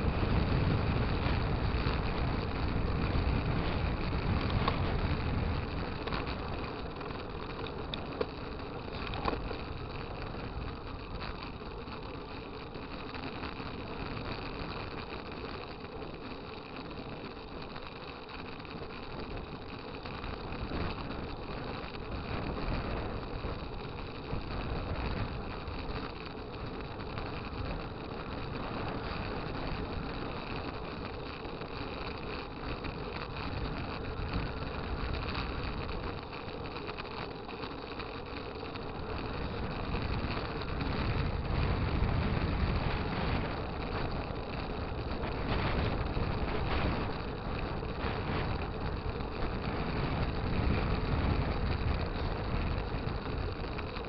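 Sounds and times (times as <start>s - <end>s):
wind and road noise: 0.0s - 54.0s.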